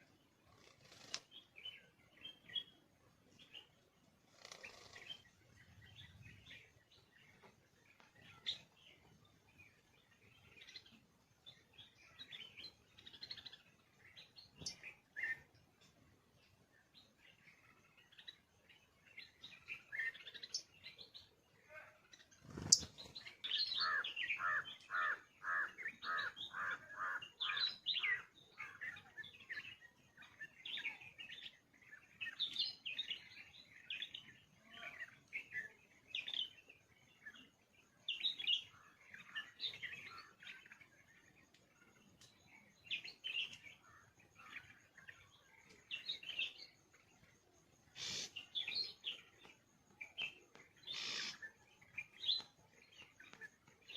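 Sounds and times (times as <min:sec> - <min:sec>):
birds chirping and calling: 0:00.0 - 0:53.9.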